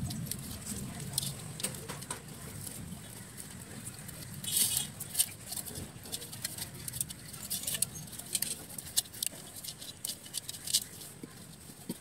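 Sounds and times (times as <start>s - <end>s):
wire scraping on clay pot: 0.0s - 12.0s.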